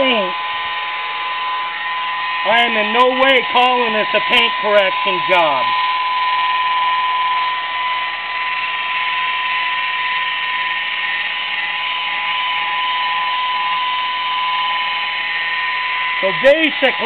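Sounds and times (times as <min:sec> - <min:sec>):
car polisher whining: 0:00.0 - 0:17.0.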